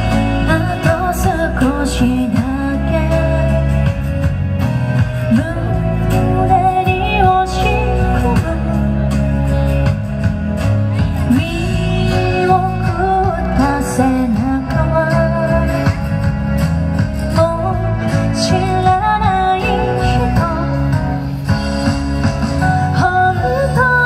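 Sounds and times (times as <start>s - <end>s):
woman singing into microphone: 0.0s - 10.2s, 11.0s - 21.9s, 22.6s - 24.0s
amplified pop accompaniment: 0.0s - 24.0s.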